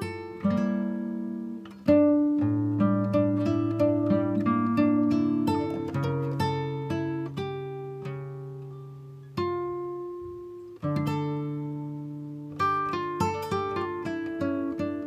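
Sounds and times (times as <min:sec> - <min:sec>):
slow acoustic guitar piece: 0:00.0 - 0:15.0.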